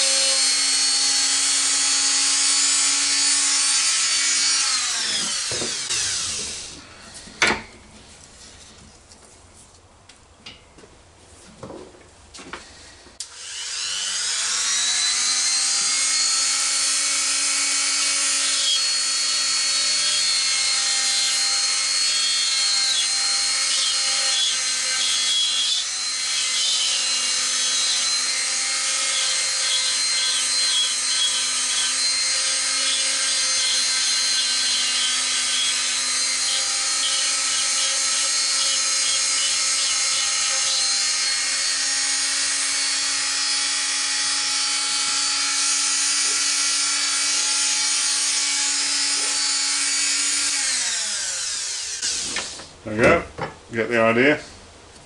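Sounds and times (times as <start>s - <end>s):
rotary tool whining: 0.0s - 7.4s, 13.2s - 52.7s.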